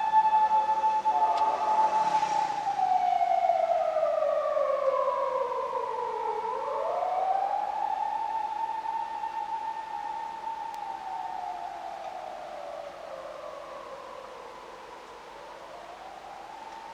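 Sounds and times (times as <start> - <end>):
police siren: 0.0 - 16.9.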